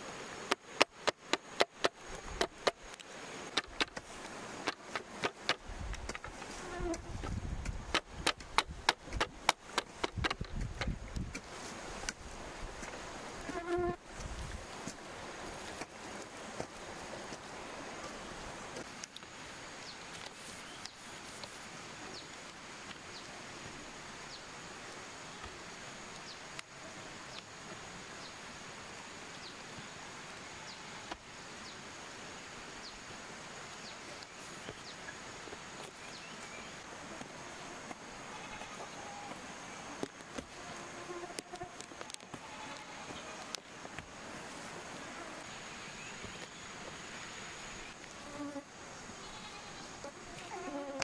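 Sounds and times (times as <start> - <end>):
background hiss: 0.0 - 51.0.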